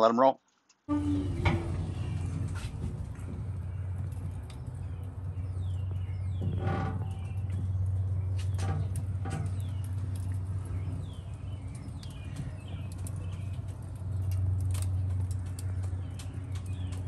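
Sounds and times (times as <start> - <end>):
birds chirping: 0.0 - 17.0
low hum: 0.8 - 17.0.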